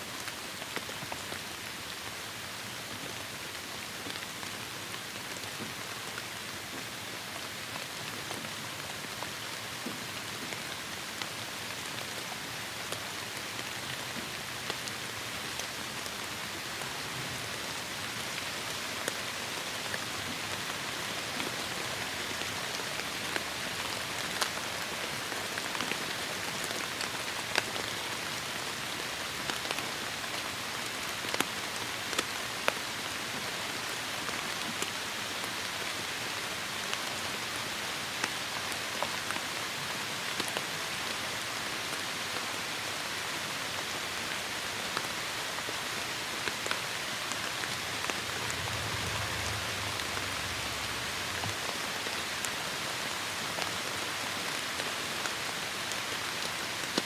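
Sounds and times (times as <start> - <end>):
raindrops ticking on surfaces: 0.1 - 57.0
heavy rain falling: 9.0 - 57.0.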